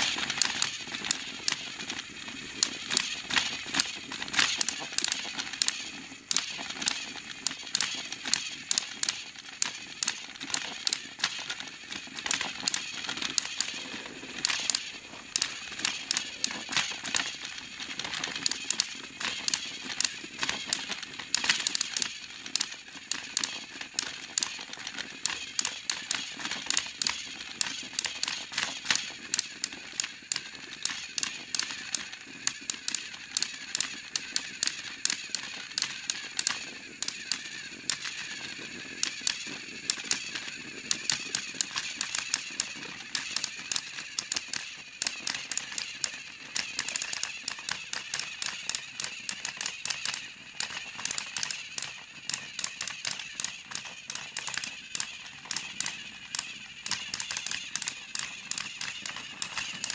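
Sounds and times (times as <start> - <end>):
gears clicking and rattling: 0.0 - 59.9
toy train motor whir: 0.0 - 59.9.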